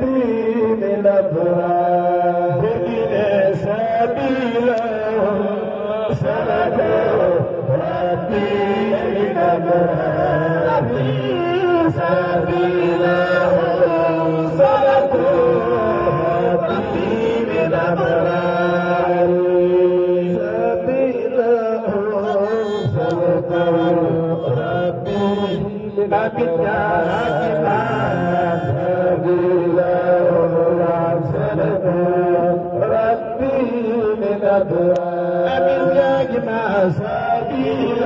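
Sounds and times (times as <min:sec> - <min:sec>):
men chanting through microphones: 0:00.0 - 0:38.0.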